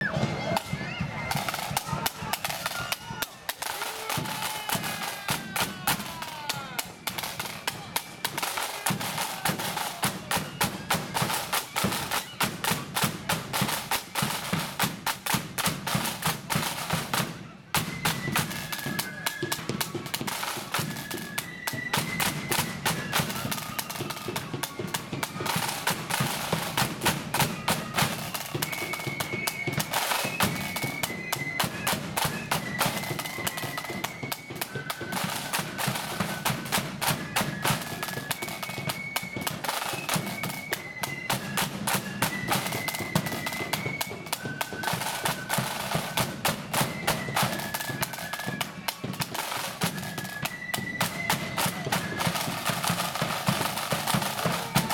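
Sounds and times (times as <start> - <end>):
flutes playing a tune: 0.0 - 54.9
snare drums: 0.0 - 54.9.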